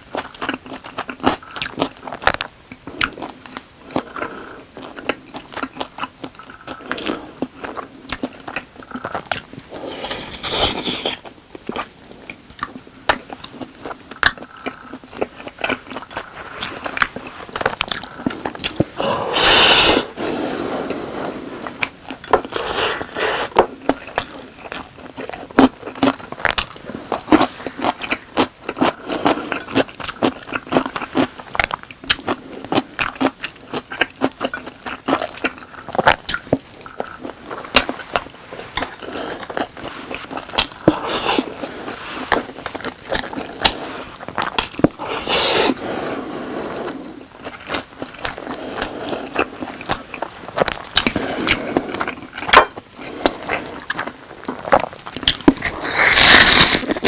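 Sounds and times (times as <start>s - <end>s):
wet chewing and mouth clicks: 0.1s - 20.1s, 21.7s - 45.7s, 47.2s - 57.0s.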